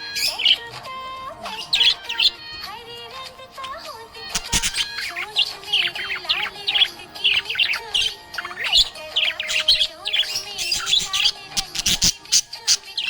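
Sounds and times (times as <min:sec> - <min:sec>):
budgerigar chirping and warbling: 0:00.0 - 0:00.7, 0:01.4 - 0:13.0.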